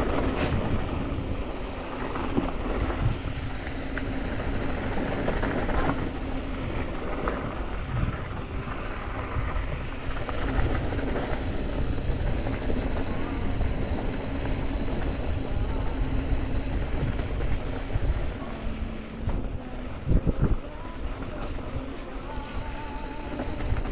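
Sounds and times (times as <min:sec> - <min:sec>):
bike clicks and rattles: 0:00.0 - 0:23.9
bike tyres crunching over dirt: 0:00.0 - 0:23.9
wind on microphone: 0:00.0 - 0:23.9.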